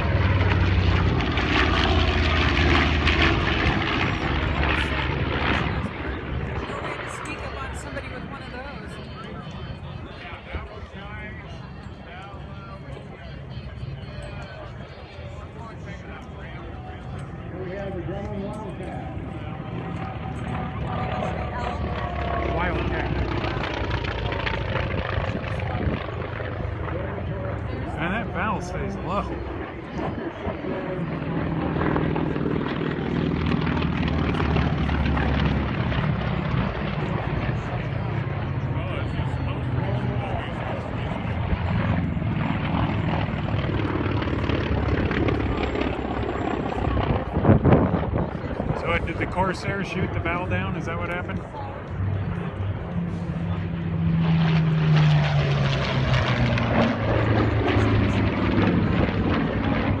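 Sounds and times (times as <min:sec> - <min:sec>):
propeller plane engine droning: 0:00.0 - 1:00.0.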